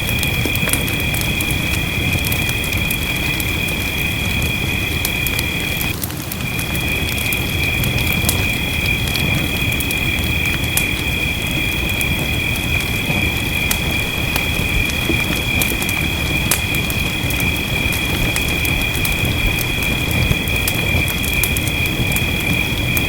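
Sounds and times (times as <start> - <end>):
rain hiss: 0.0 - 23.0
wood fire crackling and popping: 0.0 - 23.0.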